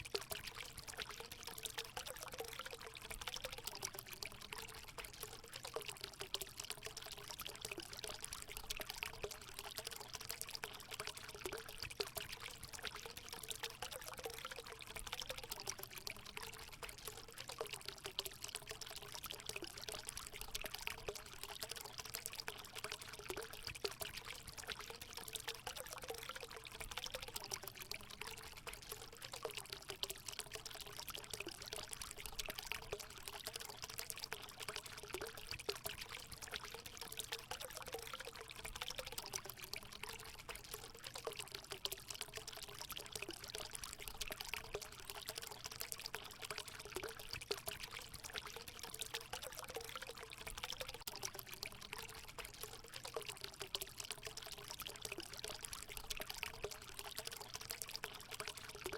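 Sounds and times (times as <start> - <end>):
water pouring into a pool: 0.0 - 58.9.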